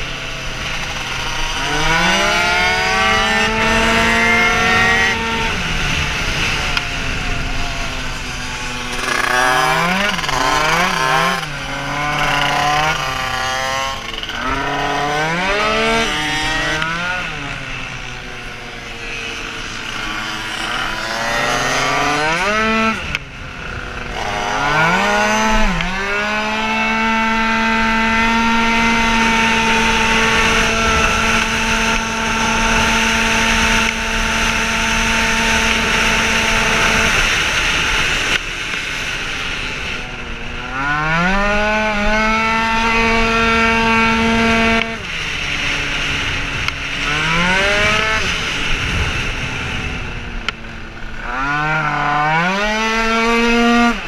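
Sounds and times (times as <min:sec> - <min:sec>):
scooter engine at full throttle: 0:00.0 - 0:54.0.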